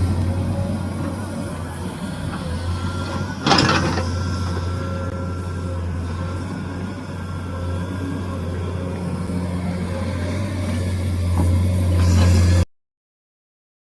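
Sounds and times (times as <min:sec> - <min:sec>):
diesel engine running: 0:00.0 - 0:12.6.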